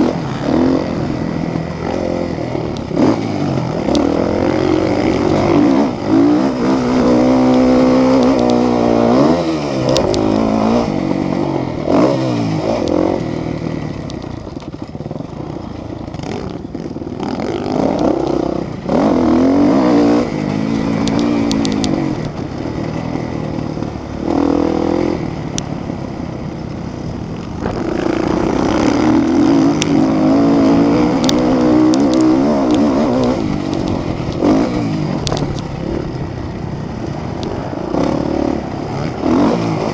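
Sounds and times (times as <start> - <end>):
motocross motorcycles revving: 0.0 - 39.9.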